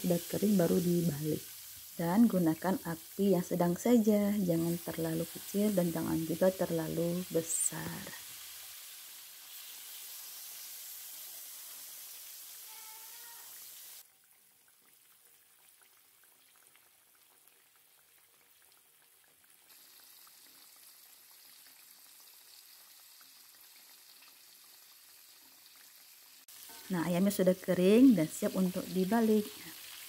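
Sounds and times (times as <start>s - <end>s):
chicken deep-frying in oil: 0.0s - 30.0s.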